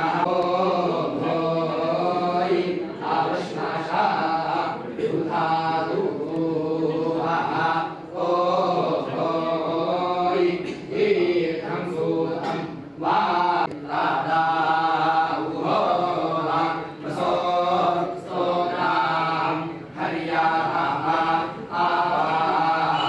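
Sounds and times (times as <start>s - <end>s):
men chanting together: 0.0s - 23.0s.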